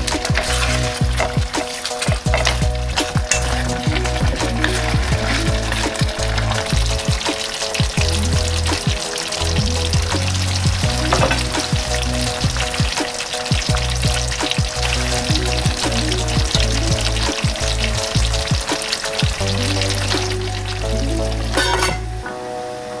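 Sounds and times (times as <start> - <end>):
sauce sizzling and bubbling: 0.0 - 22.6.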